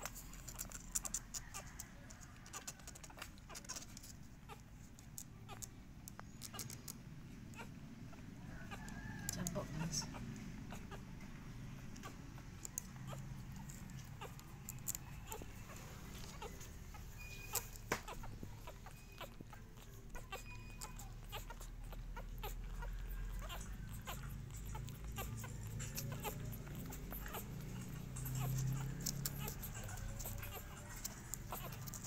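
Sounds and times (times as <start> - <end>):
puppies suckling wet sucking: 0.0 - 7.0, 11.8 - 32.0.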